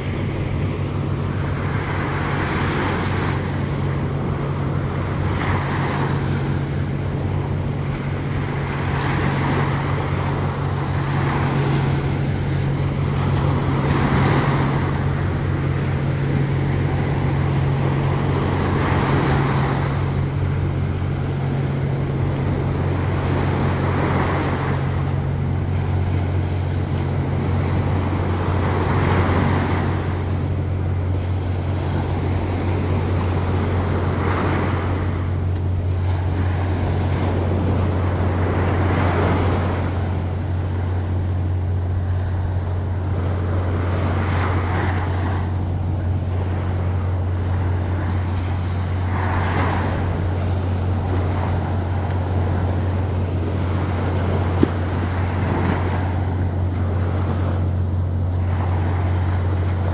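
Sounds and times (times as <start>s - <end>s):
steady low hum: 0.0s - 59.9s
surf breaking on beach: 1.2s - 59.9s.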